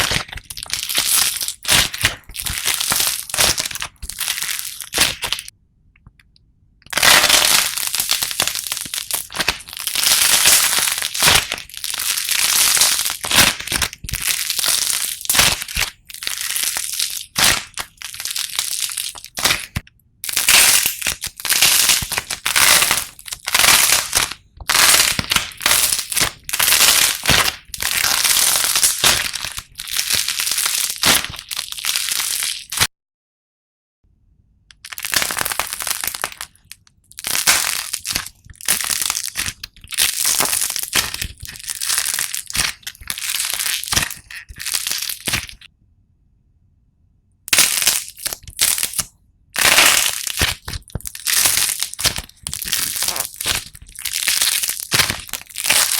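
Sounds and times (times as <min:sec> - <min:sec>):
slime squeezed crackling: 0:00.0 - 0:05.5, 0:06.9 - 0:32.9, 0:34.8 - 0:45.7, 0:47.5 - 0:55.9.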